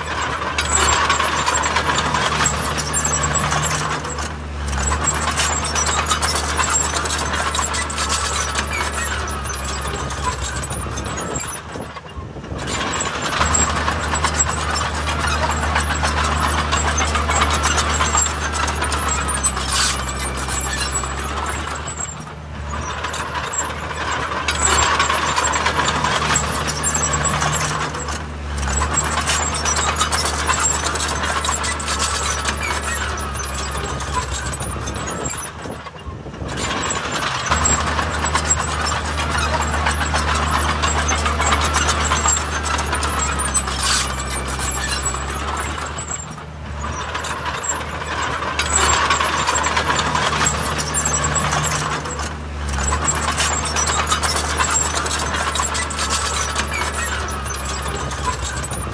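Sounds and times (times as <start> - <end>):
metallic rattle: 0.0 - 12.0, 12.6 - 35.8, 36.4 - 58.9
diesel machinery engine drone: 0.0 - 58.9.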